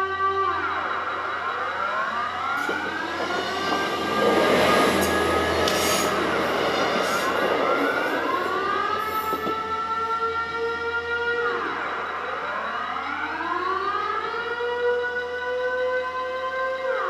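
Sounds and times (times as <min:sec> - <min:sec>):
passenger train passing: 0:00.0 - 0:14.3
air-raid siren wailing: 0:00.0 - 0:17.0.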